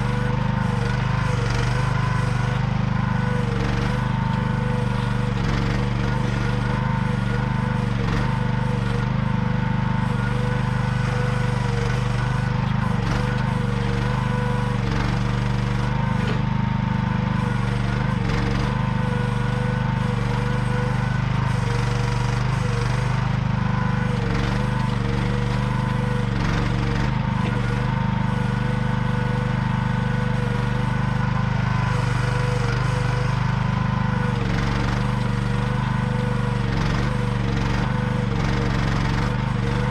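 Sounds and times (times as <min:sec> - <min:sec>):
mini excavator engine droning: 0:00.0 - 0:39.9.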